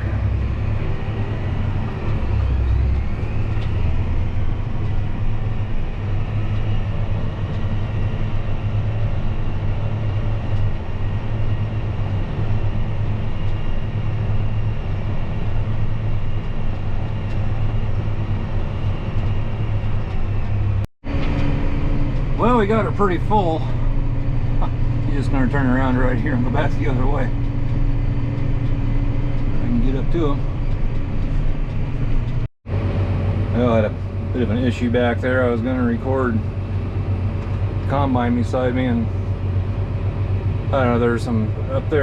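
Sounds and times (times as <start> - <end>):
combine working: 0.0 - 42.0
tractor engine running: 0.0 - 42.0.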